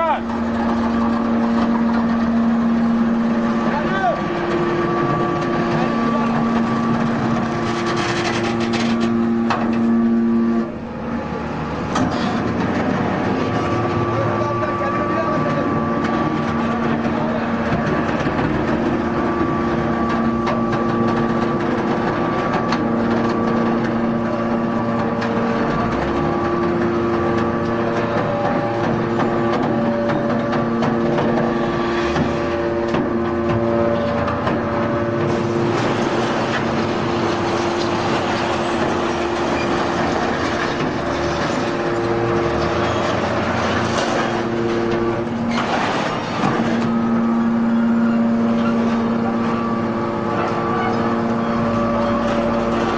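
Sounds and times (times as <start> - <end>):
hydraulic baler running: 0.0 - 52.9.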